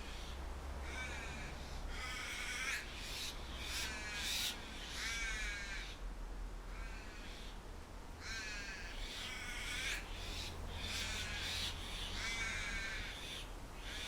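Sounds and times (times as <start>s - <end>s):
crow cawing: 0.0s - 6.0s, 6.7s - 7.6s, 8.2s - 14.0s.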